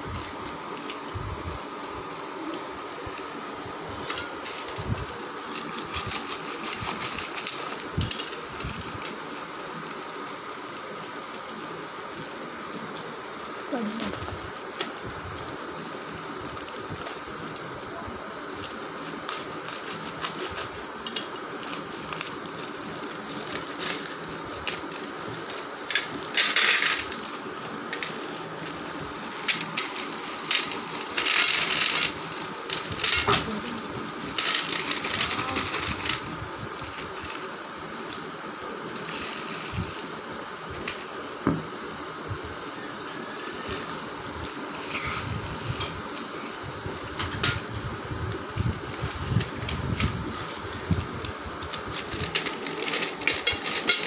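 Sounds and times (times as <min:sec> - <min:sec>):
plastic wrapping crinkling: 0:00.0 - 0:54.0
steady background hum: 0:00.0 - 0:54.0.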